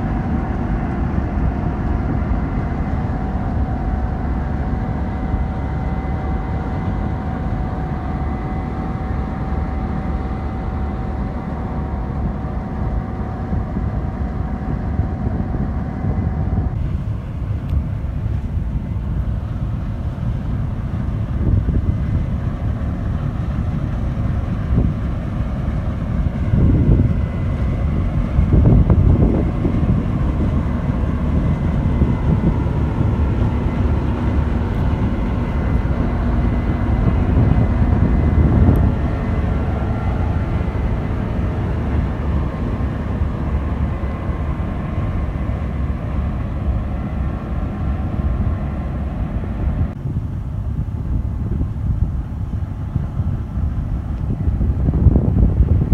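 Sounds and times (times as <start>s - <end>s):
combine harvester drone: 0.0s - 55.9s.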